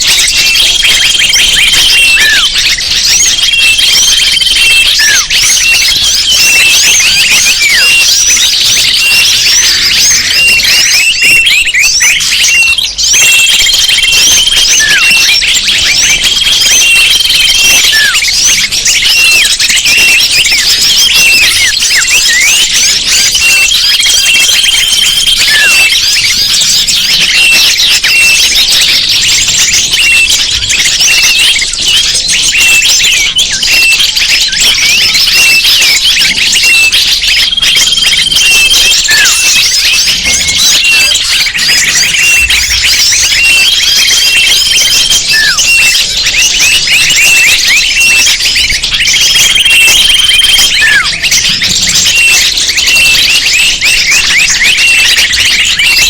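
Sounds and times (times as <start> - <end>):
bird trill: 0.0 - 56.0
small birds chirping: 0.0 - 56.0.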